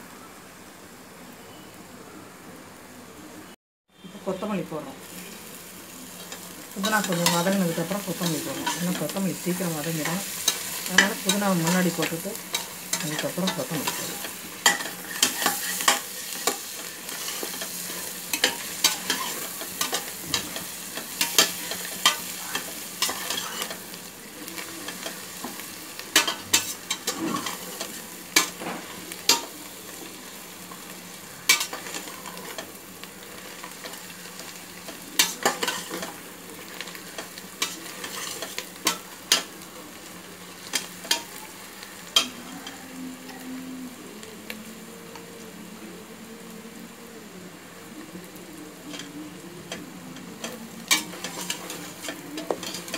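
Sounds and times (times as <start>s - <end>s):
oil sizzling in a pot: 0.0s - 52.9s.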